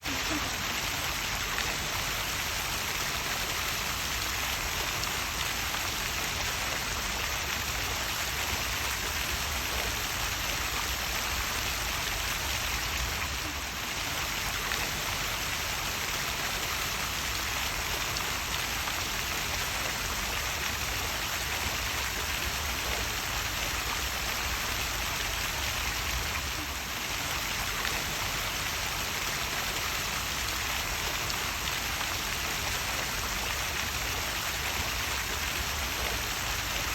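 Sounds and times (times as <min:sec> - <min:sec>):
small waterfall splashing: 0:00.0 - 0:36.9.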